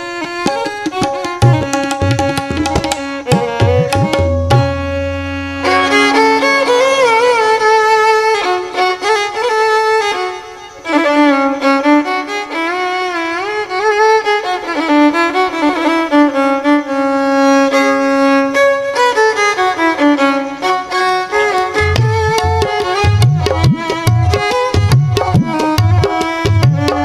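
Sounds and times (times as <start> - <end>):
solo violin melody: 0.0 - 27.0.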